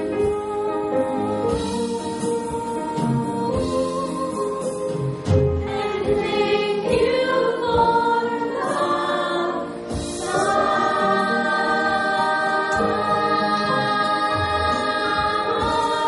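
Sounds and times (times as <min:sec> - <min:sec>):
young voices singing in chorus: 0:00.0 - 0:16.0.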